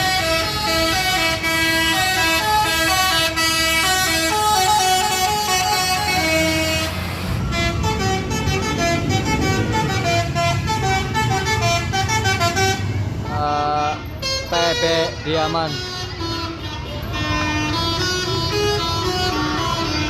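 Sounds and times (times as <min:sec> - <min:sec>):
bus engine running: 0:00.0 - 0:20.0
musical bus horn playing tune: 0:00.0 - 0:20.0.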